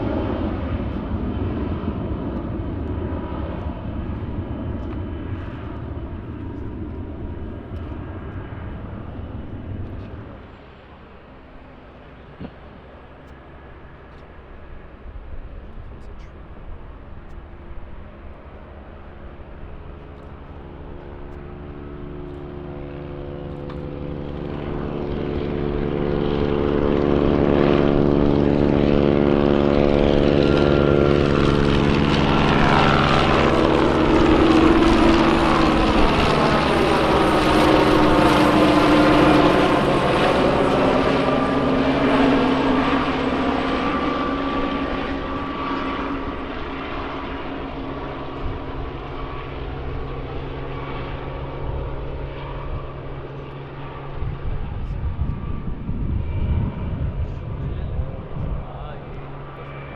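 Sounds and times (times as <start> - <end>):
propeller aircraft passing by: 0.0 - 59.9.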